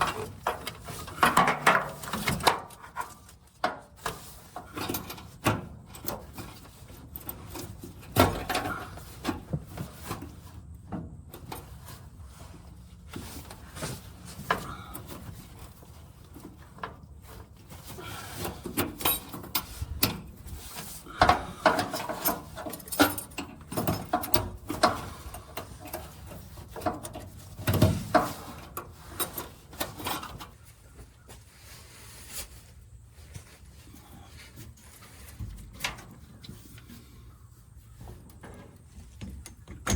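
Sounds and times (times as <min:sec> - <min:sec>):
hand tools and metal parts clunking: 0:00.0 - 0:39.9.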